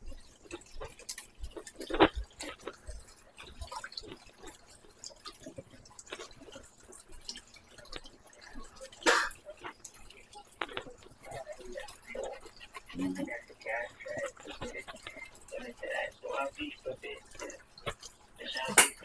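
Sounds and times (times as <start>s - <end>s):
water dripping and splashing in basin: 0.0s - 19.0s.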